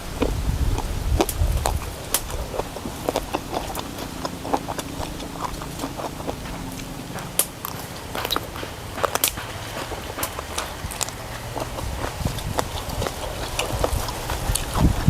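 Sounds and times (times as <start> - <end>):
person chewing crunchy food: 0.0 - 15.0.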